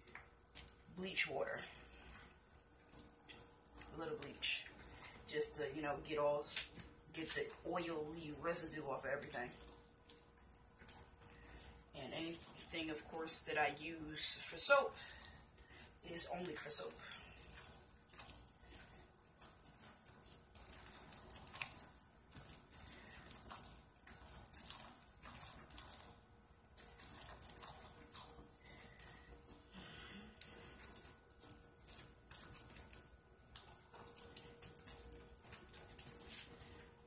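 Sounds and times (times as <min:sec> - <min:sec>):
spatula stirring thick soap paste: 0:00.0 - 0:37.0.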